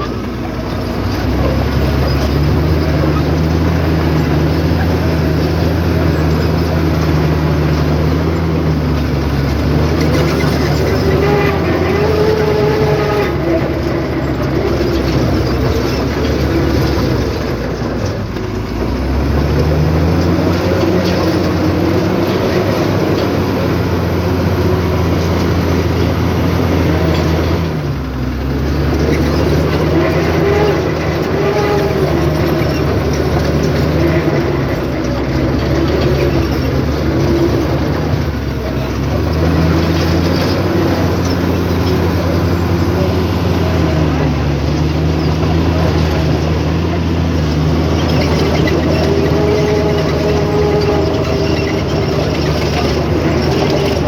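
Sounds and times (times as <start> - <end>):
heavy diesel engine working: 0.0 - 54.0.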